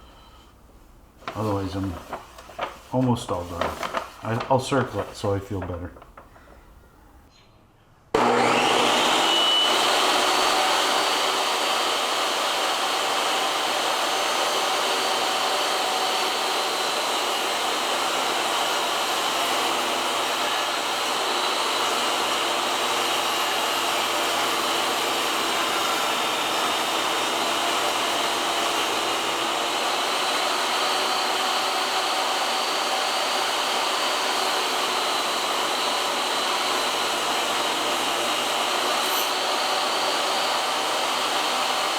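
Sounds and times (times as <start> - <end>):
electric blower motor running: 8.2 - 41.9.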